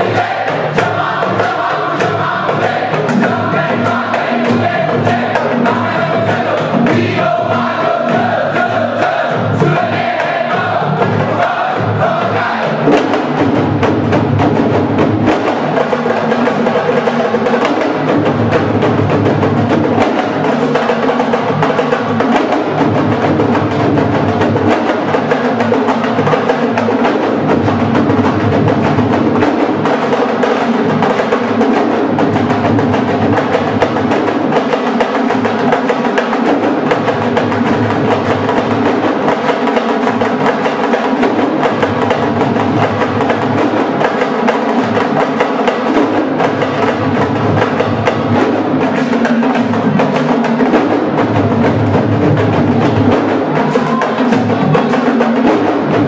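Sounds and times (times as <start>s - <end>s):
drum ensemble playing: 0.0s - 56.0s.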